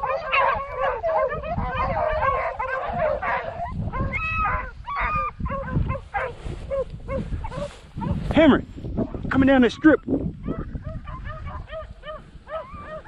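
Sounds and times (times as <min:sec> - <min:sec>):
dogs baying: 0:00.0 - 0:08.2, 0:10.4 - 0:13.0
wind rumble on microphone: 0:00.0 - 0:13.0.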